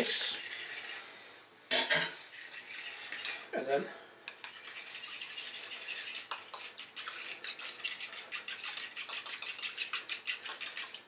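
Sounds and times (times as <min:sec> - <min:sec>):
spoon scraping bowl: 0:00.0 - 0:01.1, 0:02.0 - 0:03.6, 0:04.3 - 0:11.0.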